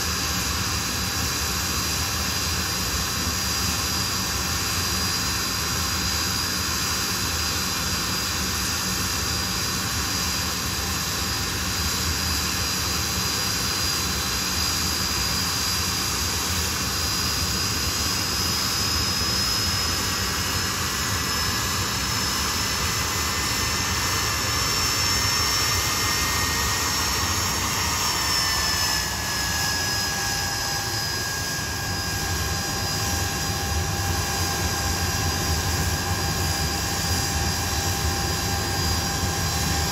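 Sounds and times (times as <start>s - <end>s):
jet engine high whine: 0.0s - 39.9s.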